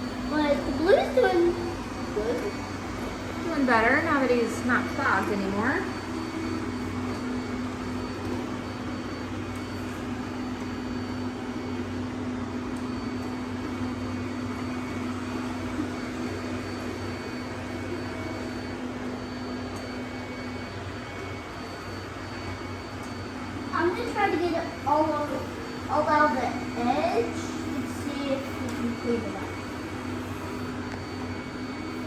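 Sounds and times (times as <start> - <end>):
robot vacuum cleaners whirring: 0.0 - 32.0.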